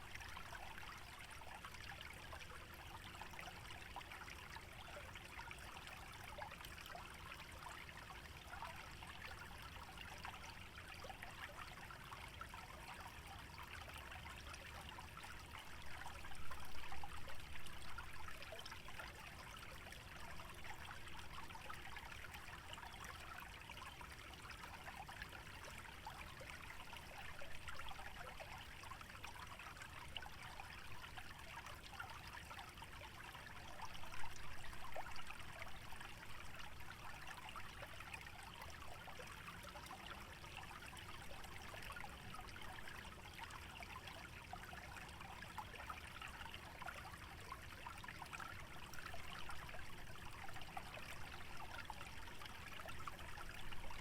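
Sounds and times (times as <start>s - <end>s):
shallow stream trickling: 0.0s - 54.0s.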